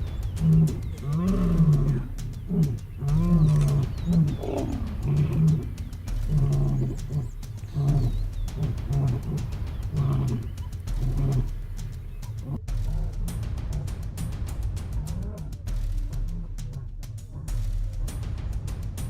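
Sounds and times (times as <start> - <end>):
lions roaring and snarling: 0.0 - 13.9, 14.9 - 18.3.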